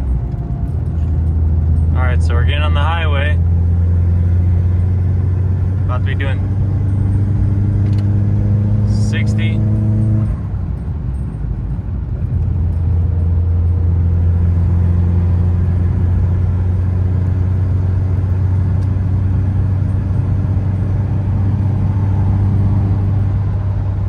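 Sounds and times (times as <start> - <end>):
low engine drone: 0.0 - 24.0
tyre and road noise: 0.0 - 24.0.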